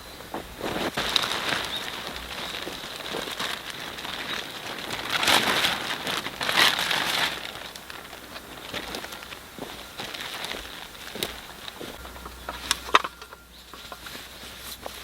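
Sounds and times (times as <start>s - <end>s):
crackly rustling of dry leaves: 0.0s - 15.0s.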